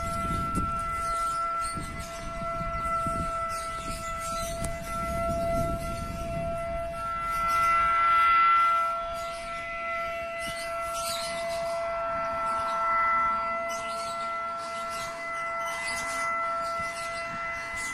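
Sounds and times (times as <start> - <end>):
siren long steady tone: 0.0 - 17.9.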